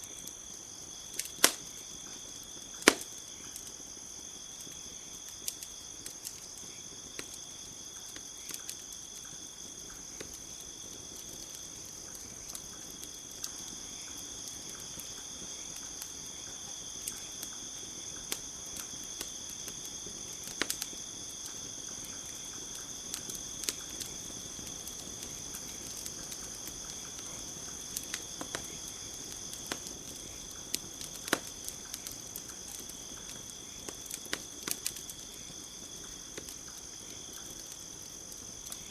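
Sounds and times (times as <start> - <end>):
campfire crackling and popping: 0.0 - 38.9
high insect chorus: 0.0 - 38.9.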